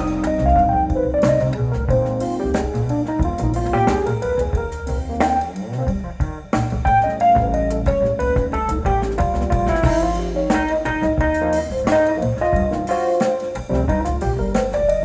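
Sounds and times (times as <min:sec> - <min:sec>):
drum kit hits: 0:00.0 - 0:15.0
instrumental melody: 0:00.0 - 0:15.0.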